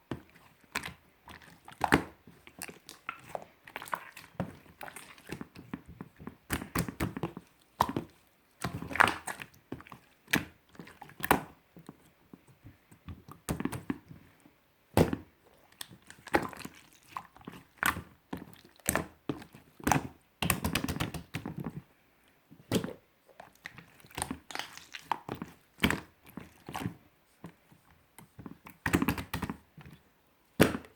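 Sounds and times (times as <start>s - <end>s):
hands squishing slime: 0.0s - 14.4s, 15.0s - 21.8s, 22.6s - 30.0s.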